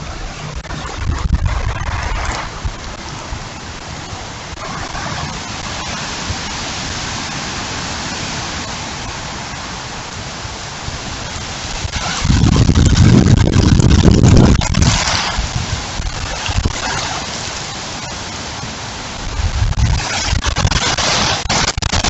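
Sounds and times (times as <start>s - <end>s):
raindrops ticking on surfaces: 0.0s - 6.6s, 7.2s - 22.0s
heavy rain pouring: 0.0s - 22.0s.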